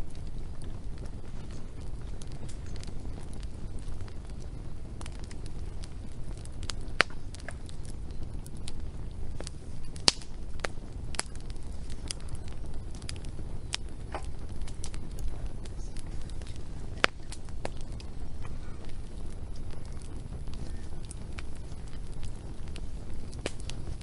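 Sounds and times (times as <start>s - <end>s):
low rumble of fire: 0.0s - 24.0s
wood fire crackling and popping: 0.0s - 24.0s.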